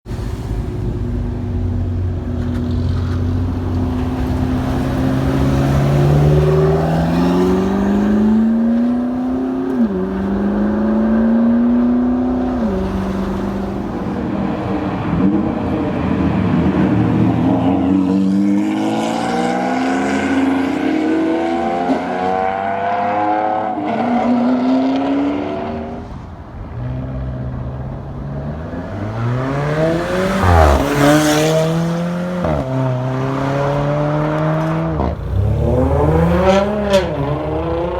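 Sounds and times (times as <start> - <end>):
car engines accelerating: 0.1 - 37.9.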